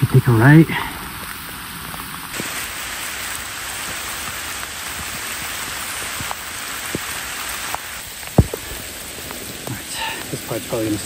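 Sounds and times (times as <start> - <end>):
rain falling: 0.0 - 11.0
raindrops tapping close by: 0.0 - 11.0.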